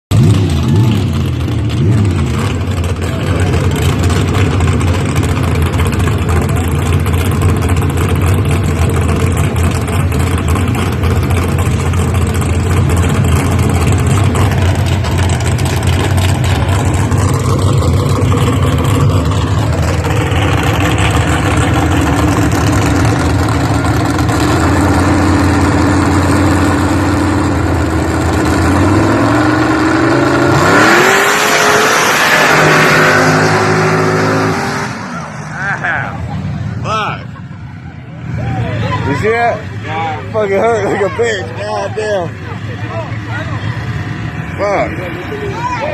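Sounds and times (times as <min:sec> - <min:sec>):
truck engine rumbling: 0:00.1 - 0:45.9.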